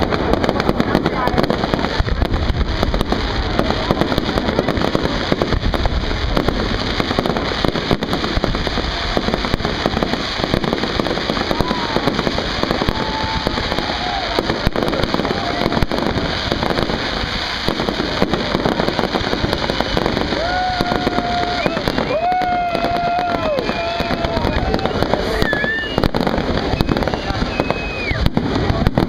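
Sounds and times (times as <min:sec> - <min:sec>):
fireworks bursting and crackling: 0:00.0 - 0:29.0.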